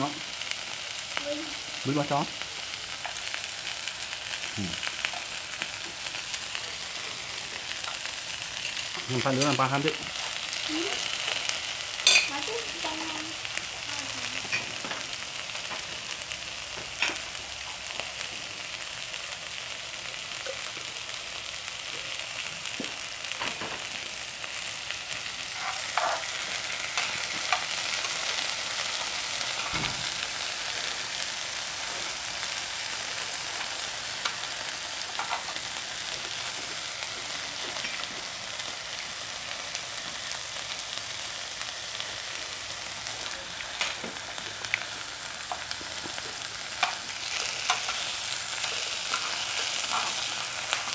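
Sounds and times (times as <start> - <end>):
meat sizzling on a grill pan: 0.0 - 50.9.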